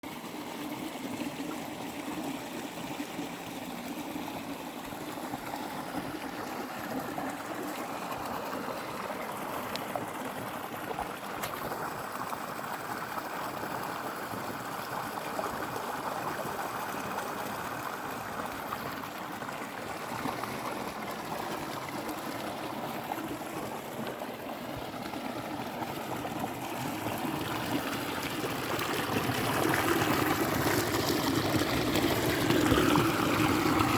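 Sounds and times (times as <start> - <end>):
water flowing and trickling: 0.0 - 33.9.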